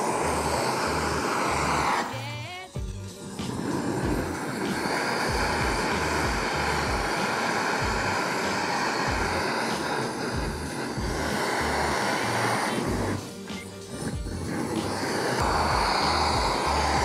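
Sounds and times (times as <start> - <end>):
music with low beat: 0.0 - 17.0
torch flame hissing: 0.0 - 17.0.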